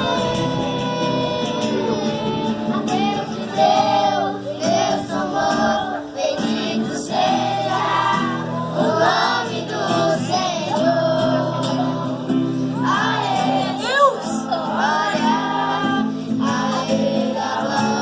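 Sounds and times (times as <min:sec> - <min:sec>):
group singing a worship song: 0:00.0 - 0:18.0.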